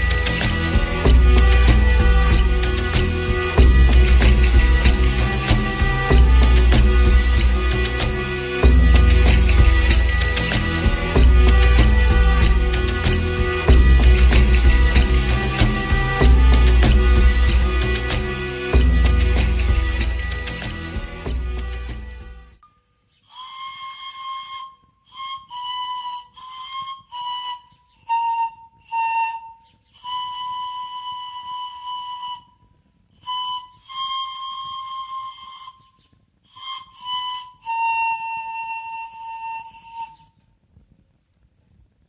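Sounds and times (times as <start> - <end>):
breathy panpipe tune: 0.0 - 40.4.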